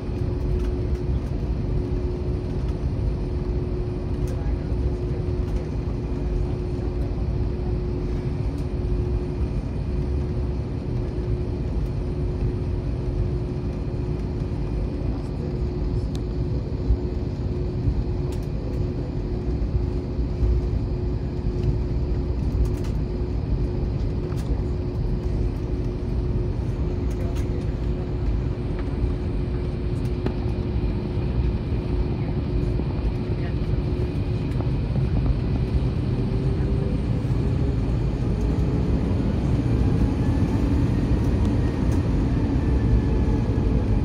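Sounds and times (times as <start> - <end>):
constant hum: 0.0 - 44.0
jet cabin engine rumble: 0.0 - 44.0.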